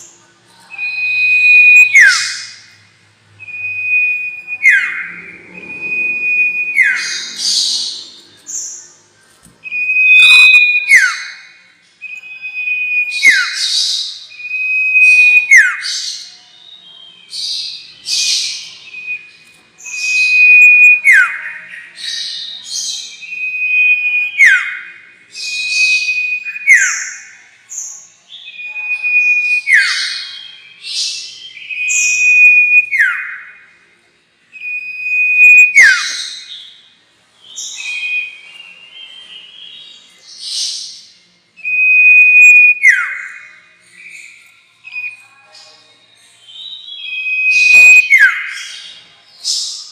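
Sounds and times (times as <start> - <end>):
songbird whistling call: 0.6 - 2.7, 3.4 - 8.9, 9.6 - 33.6, 34.6 - 36.8, 37.5 - 49.9.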